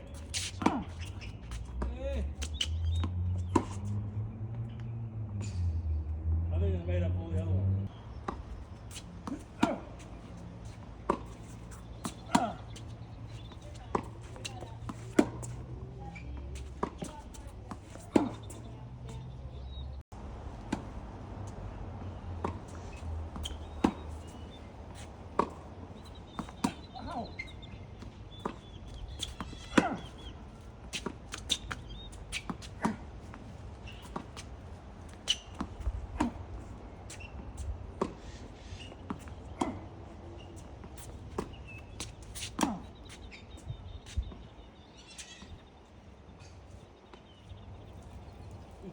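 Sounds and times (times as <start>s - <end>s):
tennis balls struck by rackets: 0.0s - 6.0s, 7.8s - 43.4s
tennis balls bouncing: 0.0s - 6.2s, 7.8s - 45.6s.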